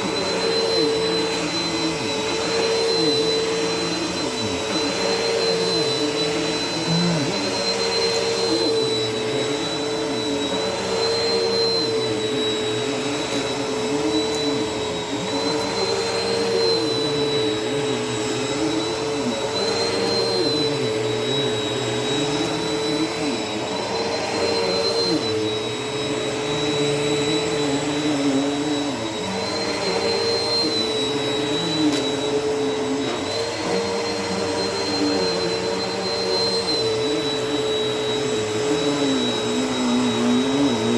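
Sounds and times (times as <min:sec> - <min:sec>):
vacuum cleaner on carpet: 0:00.0 - 0:40.9.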